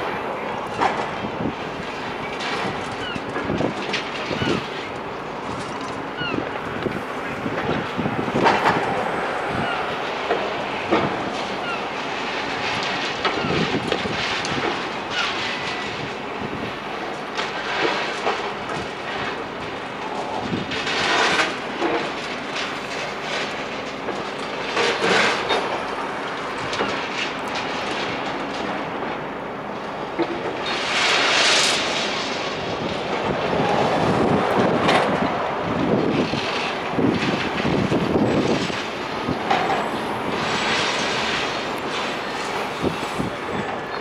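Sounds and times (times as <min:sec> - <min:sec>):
demolition machinery rumbling: 0:00.0 - 0:44.0.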